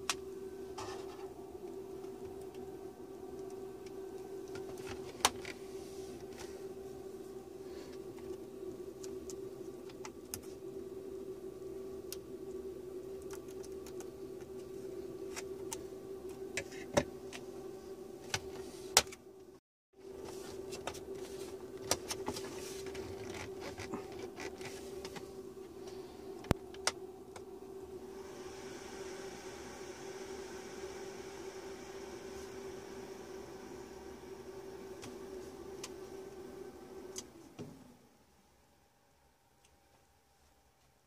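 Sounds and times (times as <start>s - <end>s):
steady hum: 0.0s - 41.0s.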